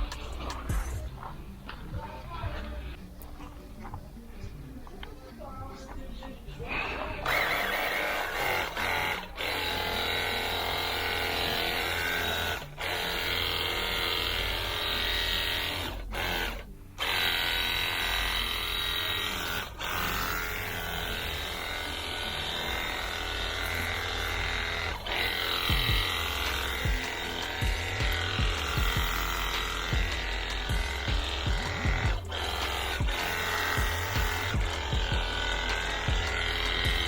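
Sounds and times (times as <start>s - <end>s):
pressure washer pump buzzing: 0.0s - 37.0s.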